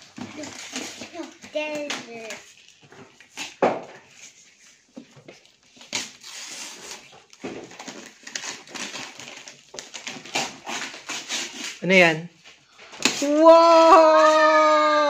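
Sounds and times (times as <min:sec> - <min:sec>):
wrapping paper tearing: 0:00.0 - 0:04.4, 0:05.4 - 0:12.0, 0:13.0 - 0:15.0.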